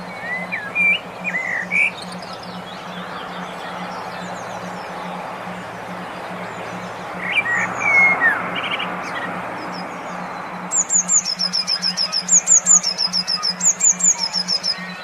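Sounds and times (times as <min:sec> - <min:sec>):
high repeated bird chirps: 0:00.0 - 0:15.0
low pulsing hum: 0:00.0 - 0:15.0
songbird calls: 0:00.0 - 0:15.0.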